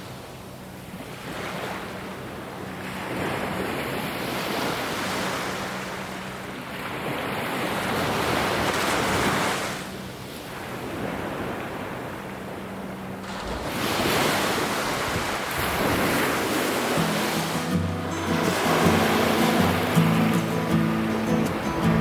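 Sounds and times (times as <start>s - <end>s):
sea waves washing on shore: 0.0s - 22.0s.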